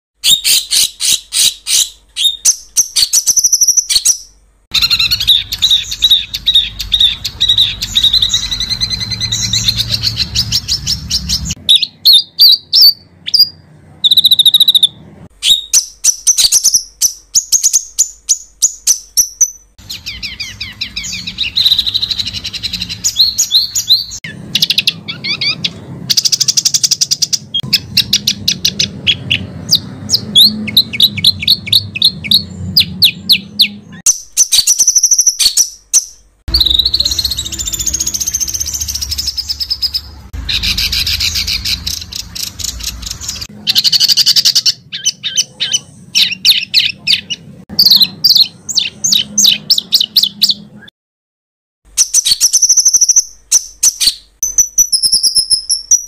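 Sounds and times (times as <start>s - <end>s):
songbird trills and harsh notes: 0.2s - 50.9s, 51.9s - 56.0s.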